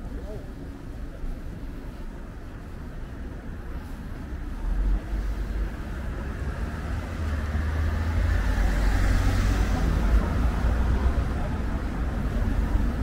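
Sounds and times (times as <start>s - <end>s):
low traffic rumble: 0.0s - 13.0s
car engine and tyres: 0.1s - 13.0s.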